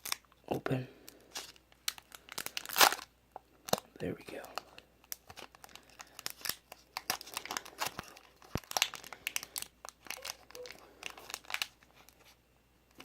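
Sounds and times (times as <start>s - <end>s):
foil wrapper crinkling: 0.0s - 0.3s, 1.1s - 3.8s, 4.4s - 12.4s.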